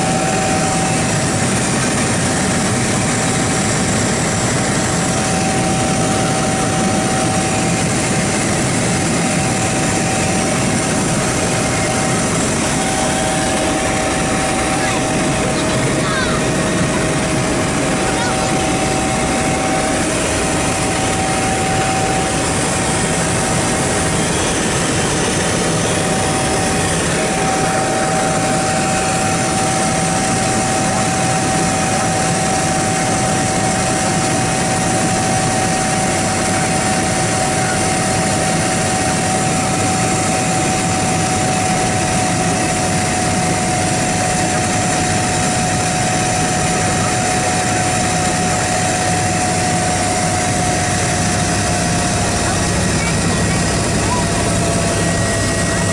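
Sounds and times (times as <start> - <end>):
constant whine: 0.0 - 55.9
helicopter engine and rotor noise: 0.0 - 55.9.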